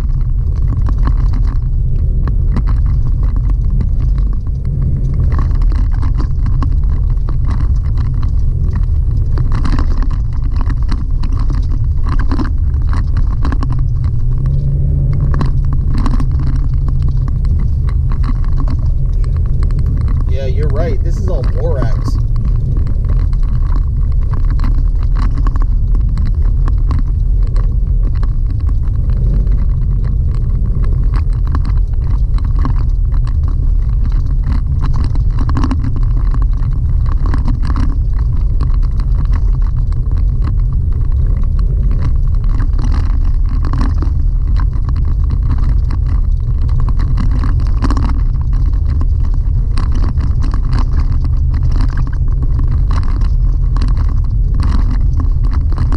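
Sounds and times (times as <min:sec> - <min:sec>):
small ticks and rattles: 0:00.0 - 0:55.9
tyres rumbling on gravel road: 0:00.0 - 0:55.9.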